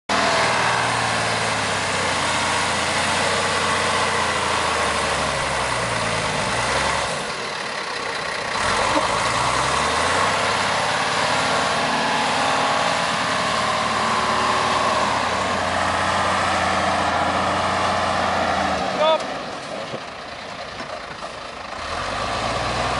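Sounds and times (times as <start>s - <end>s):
truck engine in sand: 0.1s - 22.9s.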